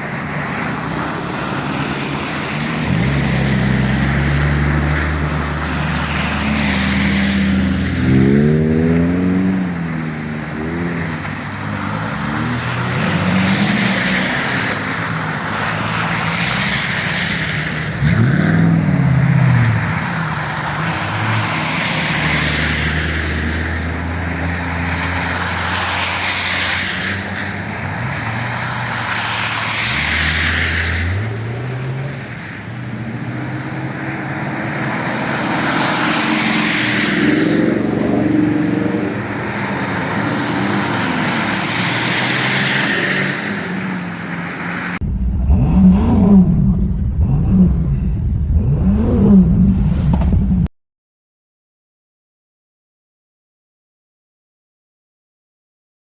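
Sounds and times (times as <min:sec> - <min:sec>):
off-road vehicle engines revving: 0:00.0 - 0:50.7.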